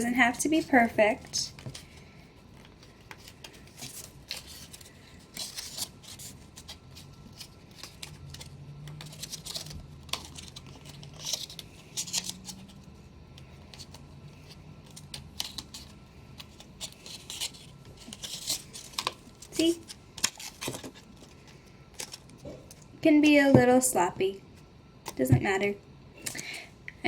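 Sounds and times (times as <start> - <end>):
paper rustling and crinkling: 0.6 - 22.8.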